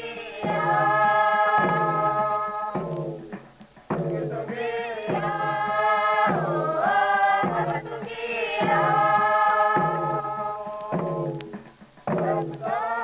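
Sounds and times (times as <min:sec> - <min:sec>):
group chanting: 0:00.0 - 0:11.5, 0:12.1 - 0:13.0.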